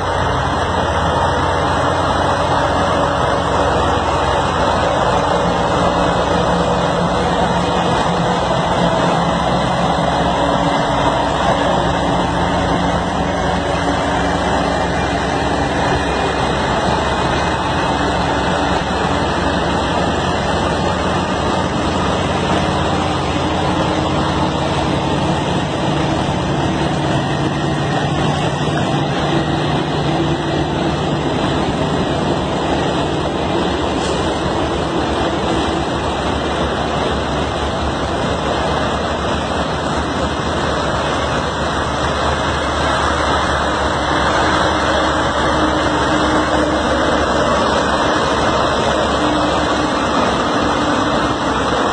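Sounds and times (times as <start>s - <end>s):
constant rushing noise: 0.0s - 51.9s
truck diesel engine drone: 0.0s - 51.9s.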